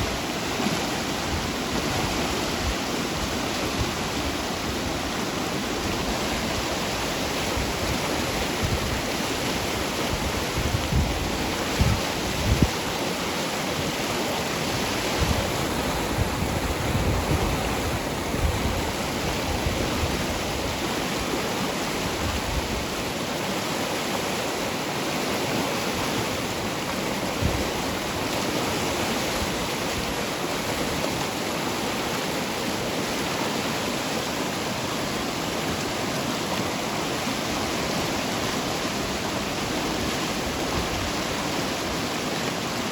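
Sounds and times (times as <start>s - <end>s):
flowing water rushing: 0.0s - 42.9s.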